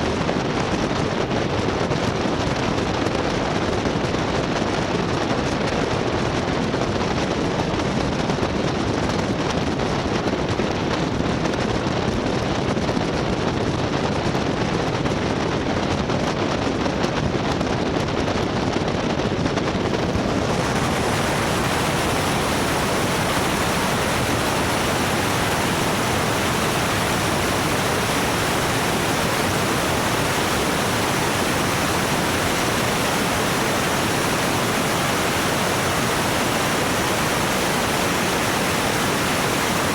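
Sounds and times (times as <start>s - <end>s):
aircraft engine and airflow noise: 0.0s - 39.9s.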